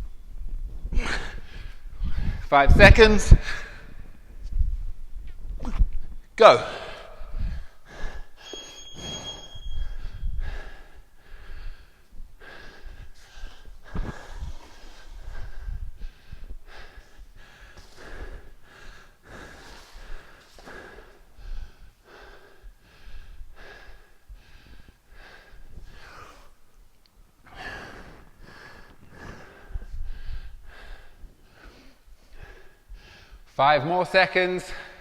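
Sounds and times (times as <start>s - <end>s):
man breathing hard and fast: 0.0s - 2.6s, 3.2s - 5.9s, 6.7s - 33.6s.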